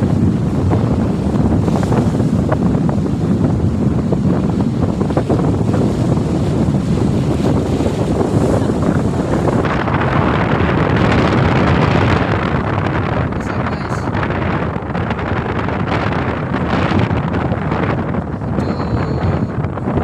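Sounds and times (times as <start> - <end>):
gale wind buffeting microphone: 0.0 - 20.0
waves breaking: 0.0 - 20.0.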